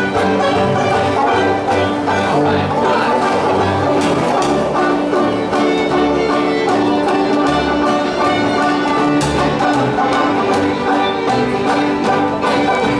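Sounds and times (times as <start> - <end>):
fiddle playing sustained notes: 0.0 - 12.9.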